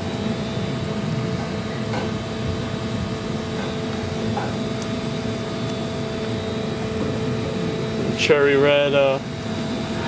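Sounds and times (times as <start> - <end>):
workshop machinery humming: 0.0 - 10.0.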